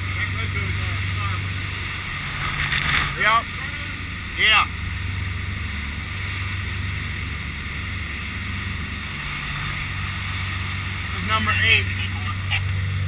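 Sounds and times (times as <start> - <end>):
boat engine drone: 0.0 - 13.0
higher hum: 0.0 - 13.0
rushing spraying water: 0.0 - 13.0
wind: 0.0 - 13.0.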